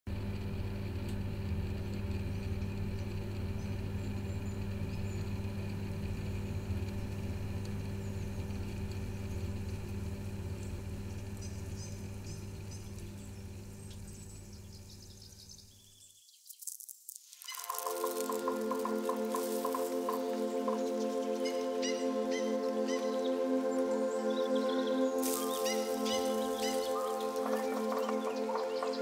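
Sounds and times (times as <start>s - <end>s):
ventilation low drone: 0.1s - 15.7s, 17.6s - 29.0s.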